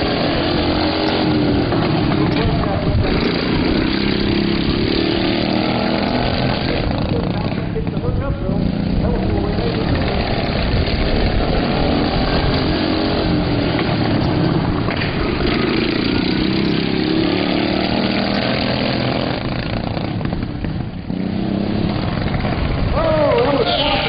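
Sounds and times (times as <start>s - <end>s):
quad bike engines racing: 0.0s - 24.0s.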